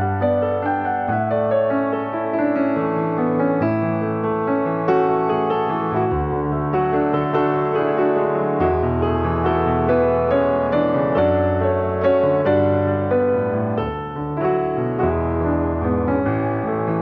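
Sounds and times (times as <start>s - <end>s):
calm piano music: 0.0s - 17.0s.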